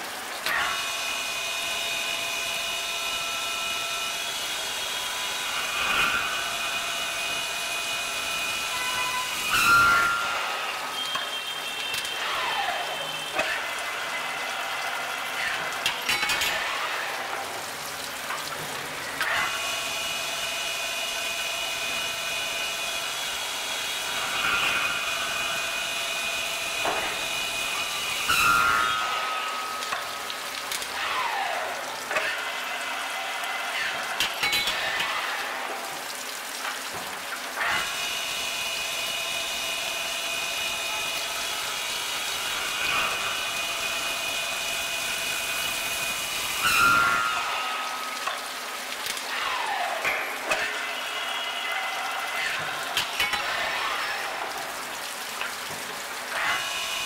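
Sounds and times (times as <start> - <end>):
spindle motor whining: 0.4 - 18.4, 19.0 - 35.9, 37.6 - 57.0.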